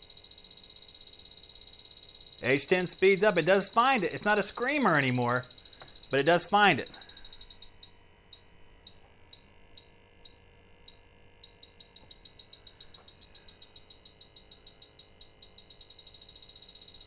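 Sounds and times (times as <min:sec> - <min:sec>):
leak detector beeping: 0:00.0 - 0:17.0.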